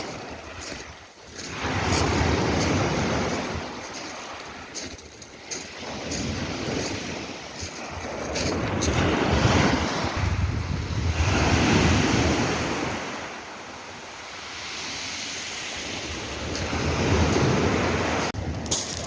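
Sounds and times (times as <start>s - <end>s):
sea waves washing in: 0.0s - 19.0s
wind buffeting microphone: 0.0s - 19.0s.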